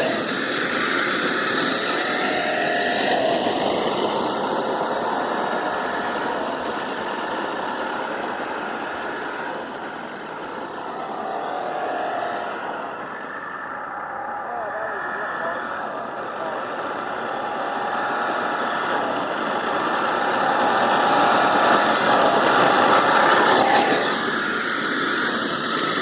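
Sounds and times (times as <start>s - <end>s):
toy car motor whining: 0.0s - 12.2s, 16.8s - 26.0s
tyres rushing on pavement: 0.0s - 26.0s.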